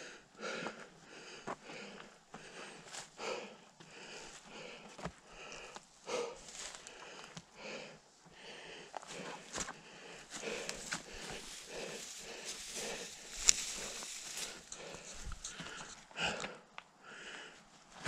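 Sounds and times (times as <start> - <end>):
person breathing heavily: 0.0 - 17.7.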